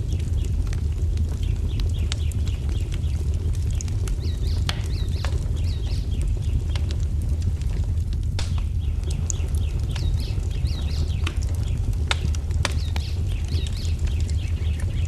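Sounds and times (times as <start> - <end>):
small birds chirping: 0.0 - 7.0, 8.4 - 15.0
wood fire crackling and popping: 0.0 - 15.0.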